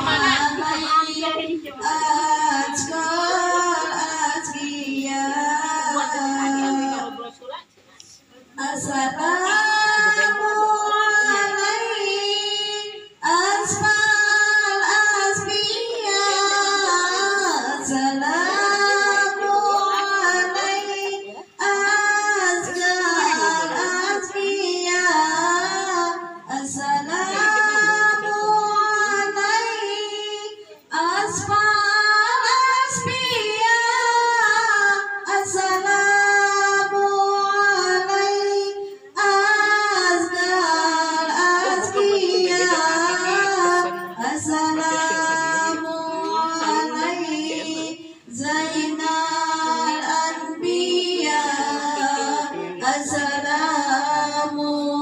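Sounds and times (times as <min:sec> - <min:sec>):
woman singing devotional chant: 0:00.0 - 0:55.0.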